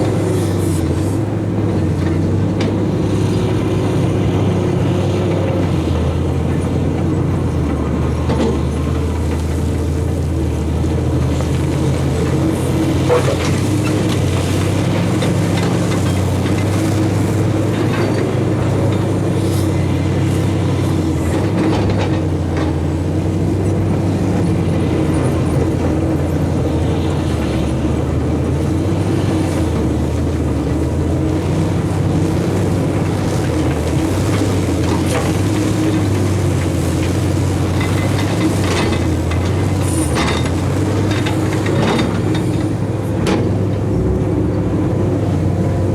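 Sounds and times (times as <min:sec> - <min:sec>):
heavy diesel engines under load: 0:00.0 - 0:45.9.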